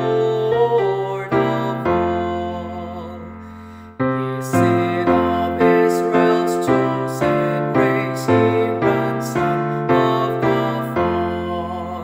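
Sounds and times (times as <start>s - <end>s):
piano playing hymn chords: 0.0s - 12.0s.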